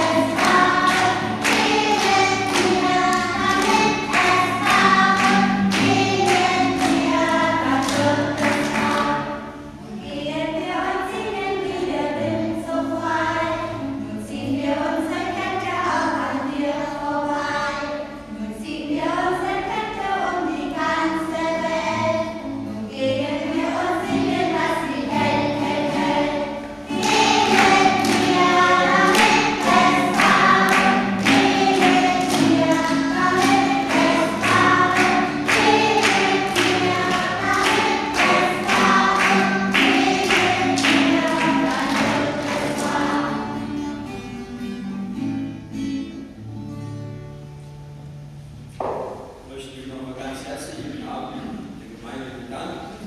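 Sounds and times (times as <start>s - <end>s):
strummed acoustic guitar: 0.0s - 14.3s, 19.8s - 48.9s
voices singing together: 0.0s - 44.2s.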